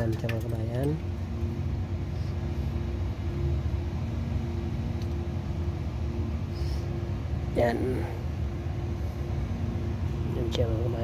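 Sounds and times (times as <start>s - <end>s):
faint humming tone: 0.0s - 11.0s
machine droning: 0.0s - 11.0s.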